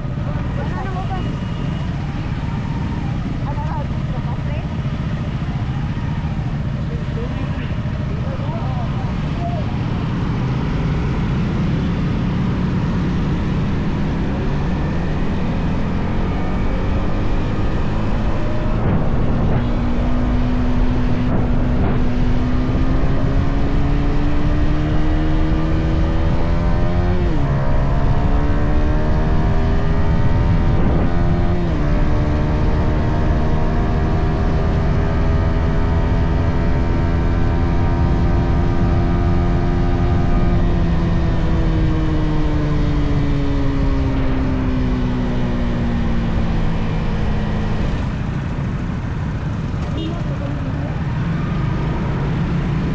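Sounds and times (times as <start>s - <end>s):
low rush of wind: 0.0s - 52.9s
motorcycle engine accelerating: 0.0s - 52.9s.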